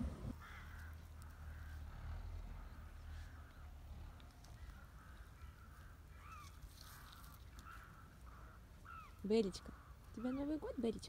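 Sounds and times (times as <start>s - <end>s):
faint bird calls: 0.0s - 11.0s.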